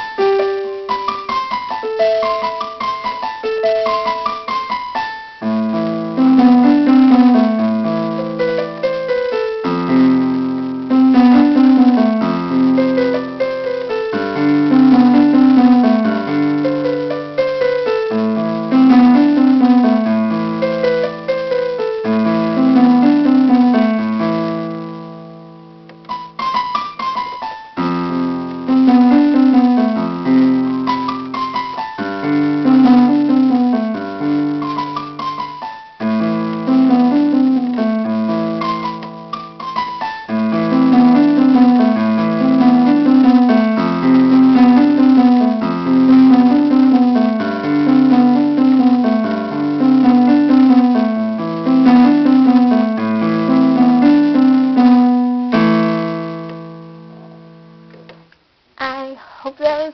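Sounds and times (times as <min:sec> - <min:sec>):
solo piano playing: 0:00.0 - 0:58.6.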